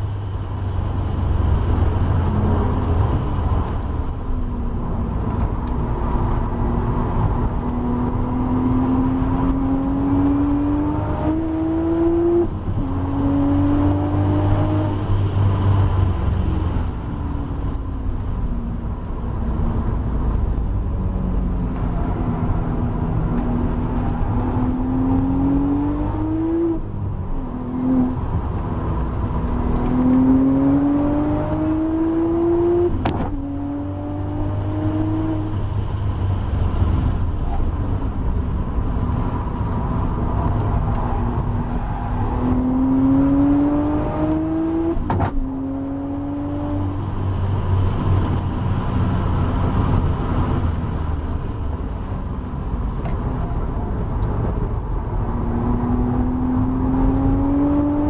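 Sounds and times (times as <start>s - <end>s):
car engine accelerating hard: 1.0s - 18.5s, 19.4s - 58.0s.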